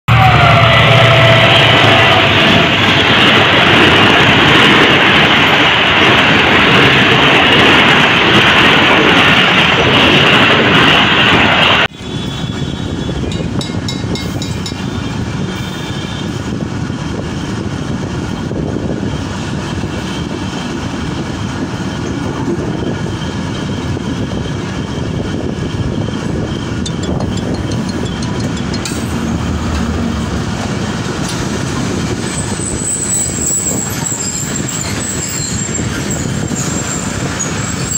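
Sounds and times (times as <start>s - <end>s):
train rushing past at speed: 0.1s - 37.9s
train wheels rumbling on rails: 0.1s - 37.9s.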